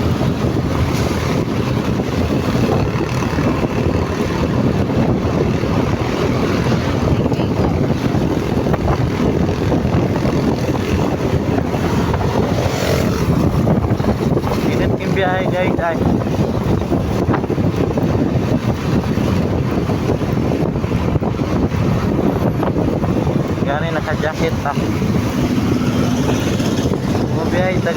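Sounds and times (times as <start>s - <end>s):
motorcycle engine running: 0.0s - 27.9s
wind rushing over microphone: 0.0s - 27.9s.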